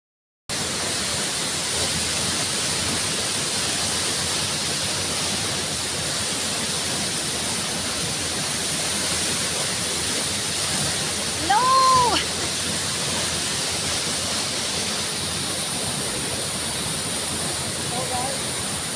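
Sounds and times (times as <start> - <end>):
waterfall rushing: 0.5 - 18.9.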